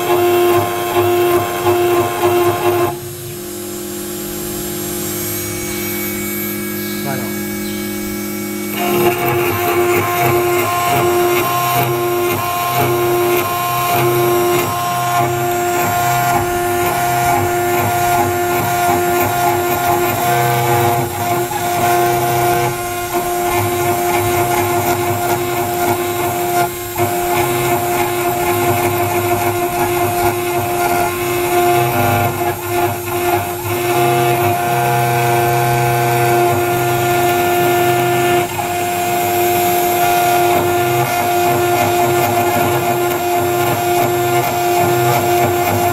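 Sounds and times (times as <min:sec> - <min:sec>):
metal cutting noise: 0:00.0 - 0:45.9
router spindle whine: 0:00.0 - 0:45.9.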